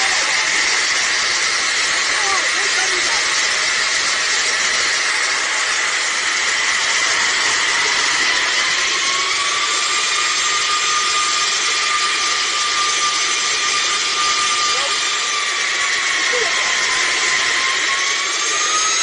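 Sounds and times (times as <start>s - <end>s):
aircraft engines roaring: 0.0s - 19.0s
engine whine rising: 0.0s - 19.0s.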